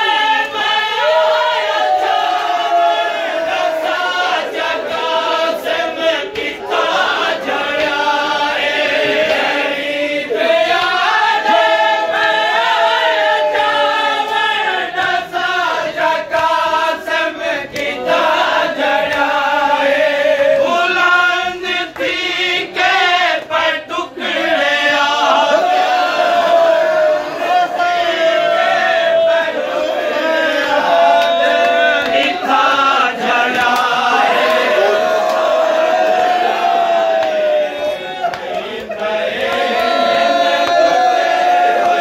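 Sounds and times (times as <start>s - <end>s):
crowd chanting: 0.0s - 42.0s.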